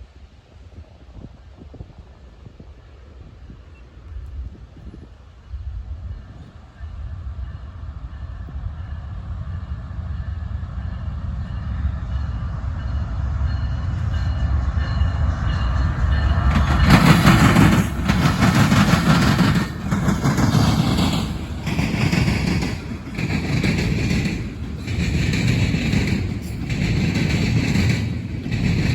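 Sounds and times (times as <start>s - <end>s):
train passing with wheels on rail: 0.0s - 28.9s.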